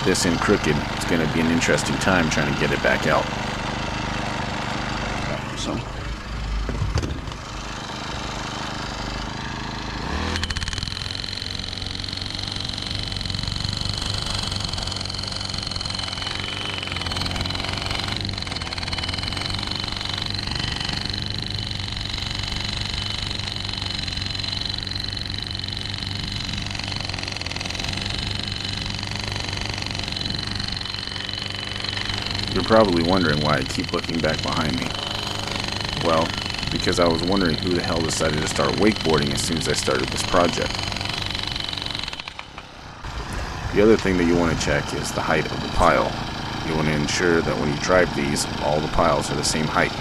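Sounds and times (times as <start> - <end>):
post driver engine: 0.0 - 50.0.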